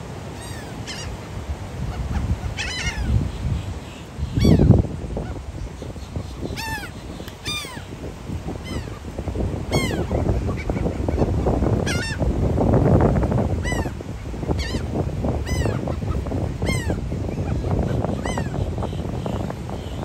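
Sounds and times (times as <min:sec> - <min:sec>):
gulls calling: 0:00.3 - 0:01.2, 0:01.8 - 0:12.4, 0:13.4 - 0:20.0.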